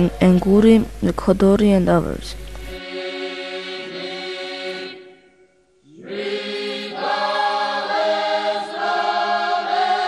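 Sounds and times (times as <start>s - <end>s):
choir singing held chords: 0.0s - 1.2s, 2.6s - 10.0s.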